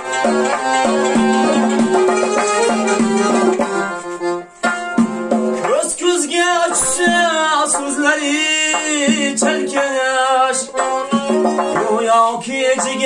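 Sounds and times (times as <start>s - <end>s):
accordion: 0.0s - 13.0s
frame drum: 0.0s - 13.0s
plucked lute: 0.0s - 13.0s.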